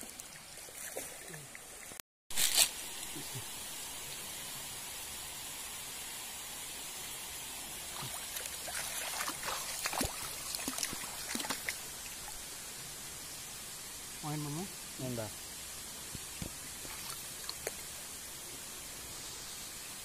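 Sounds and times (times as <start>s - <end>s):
stream flowing: 0.0s - 13.8s, 15.9s - 19.1s.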